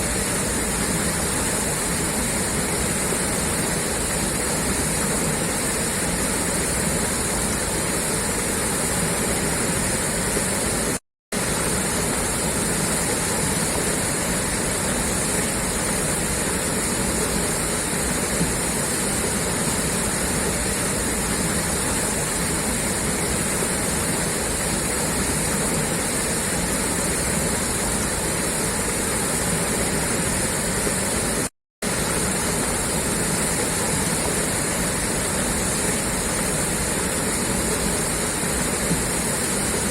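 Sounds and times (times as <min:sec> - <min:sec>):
water gushing from a pipe: 0:00.0 - 0:39.9.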